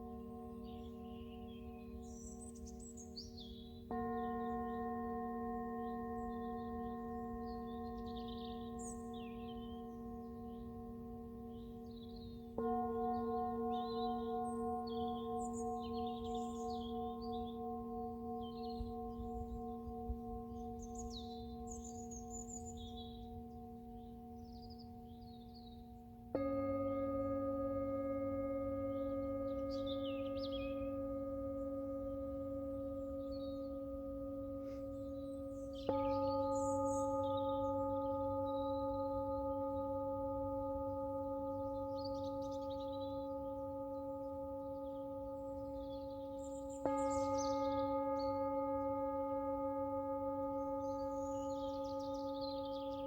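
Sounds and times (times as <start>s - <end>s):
singing bowls ringing: 0.0s - 53.0s.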